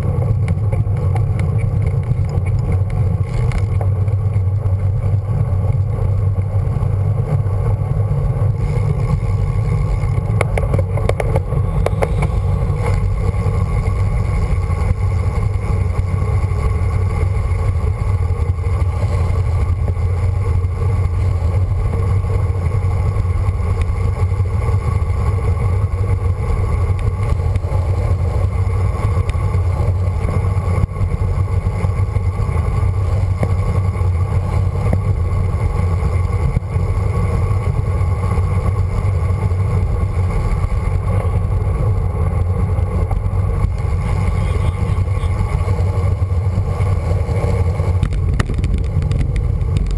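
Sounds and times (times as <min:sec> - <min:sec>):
bicycle tyres road rumble: 0:00.0 - 0:49.9
wind rush: 0:02.8 - 0:49.9.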